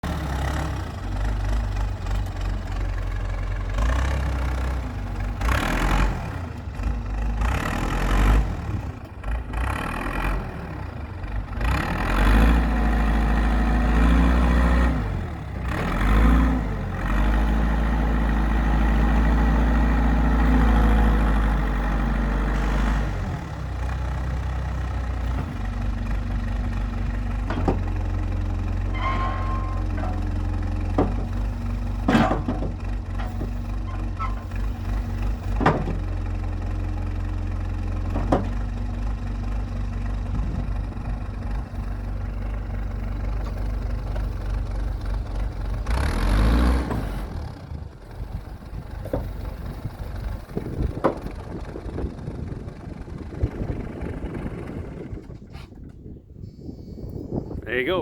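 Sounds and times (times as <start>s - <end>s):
backhoe diesel engine revving: 0.0s - 55.6s.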